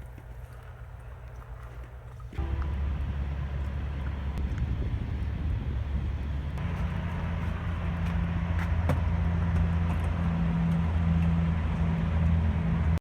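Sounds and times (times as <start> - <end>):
car engine and road drone: 2.4 - 13.0.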